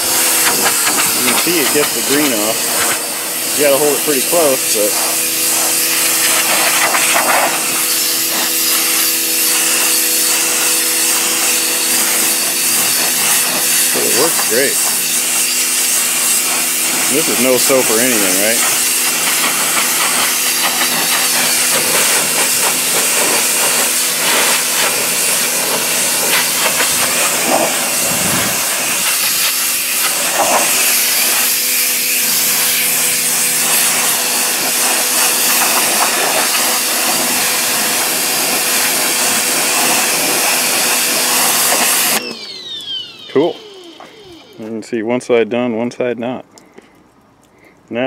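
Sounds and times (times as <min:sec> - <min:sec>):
pressure washer spray hissing: 0:00.0 - 0:45.0
pressure washer motor humming: 0:00.0 - 0:45.5.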